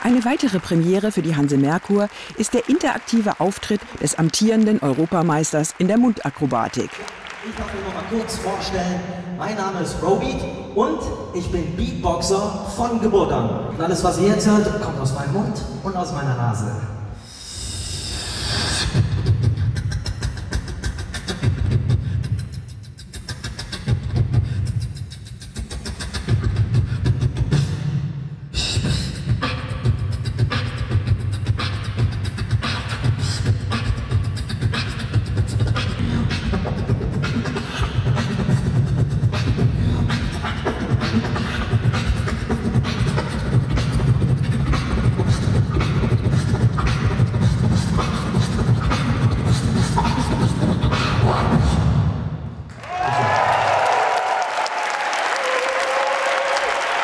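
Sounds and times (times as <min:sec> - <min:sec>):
beatboxing into a microphone: 0:00.0 - 0:15.8, 0:16.6 - 0:52.7.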